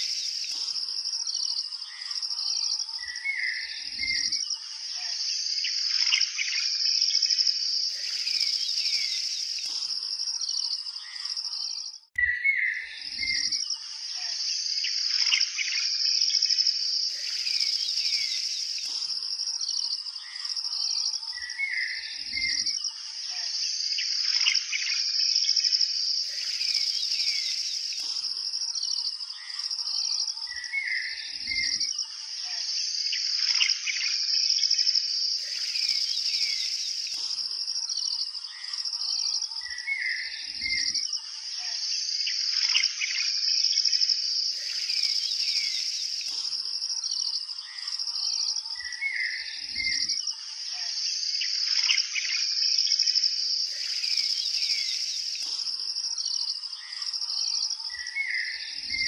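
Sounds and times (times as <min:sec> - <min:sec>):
bird calls: 0:00.0 - 0:31.8, 0:35.4 - 0:43.9, 0:44.5 - 0:52.6, 0:53.6 - 0:59.0
insects chirping: 0:00.0 - 0:59.0.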